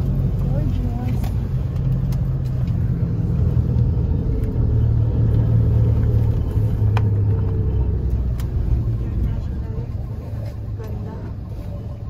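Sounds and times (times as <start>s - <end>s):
car driving rumble: 0.0s - 12.0s
low engine hum: 0.0s - 12.0s.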